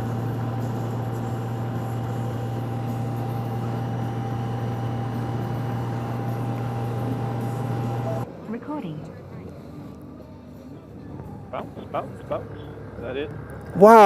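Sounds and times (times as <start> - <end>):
motorcycle engine hum: 0.0 - 14.0
road and wind noise: 0.0 - 14.0.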